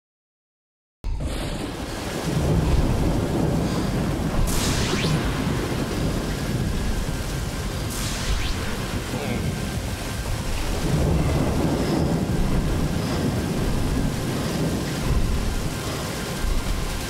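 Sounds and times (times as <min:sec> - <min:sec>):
heavy rain pouring: 0:01.2 - 0:17.0
thunder rumbling: 0:01.2 - 0:17.0.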